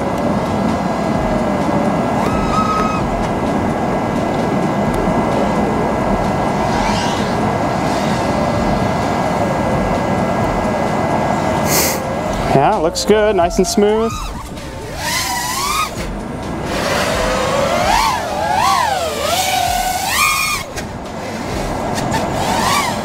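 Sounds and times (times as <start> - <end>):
quadcopter motors buzzing: 1.1 - 10.7, 11.6 - 23.0.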